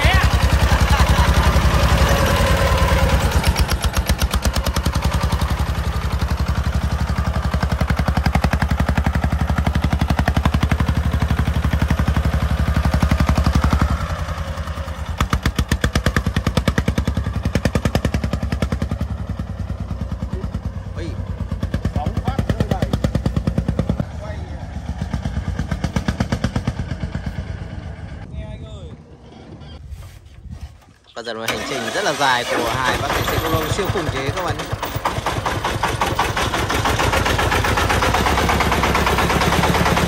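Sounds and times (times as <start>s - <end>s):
diesel engine running: 0.0s - 28.3s, 31.5s - 40.0s.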